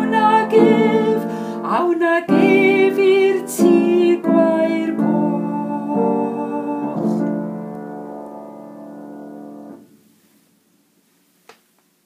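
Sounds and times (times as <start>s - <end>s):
piano chords: 0.0s - 10.0s.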